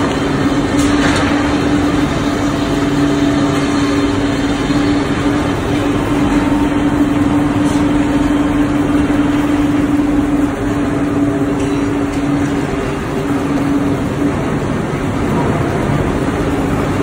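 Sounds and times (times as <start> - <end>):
heavy machinery noise: 0.0 - 17.0
strong steady hum: 0.0 - 17.0.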